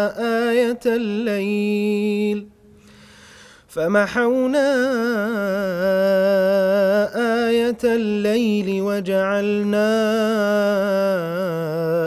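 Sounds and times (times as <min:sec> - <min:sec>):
man chanting melodically: 0:00.0 - 0:02.5, 0:03.7 - 0:12.0.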